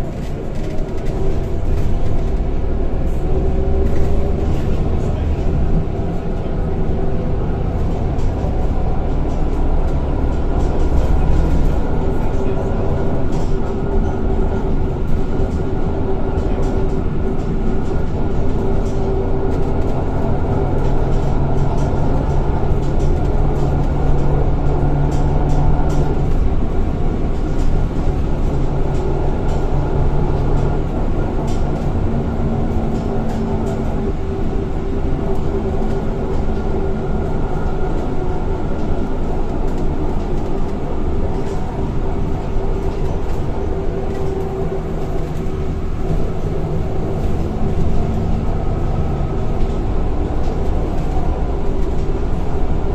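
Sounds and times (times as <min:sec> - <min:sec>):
bus engine drone: 0:00.0 - 0:52.9
road rumble: 0:00.0 - 0:52.9.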